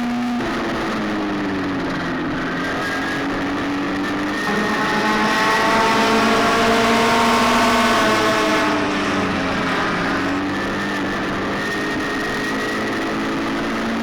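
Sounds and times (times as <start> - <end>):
race car engines: 0.1 - 14.0.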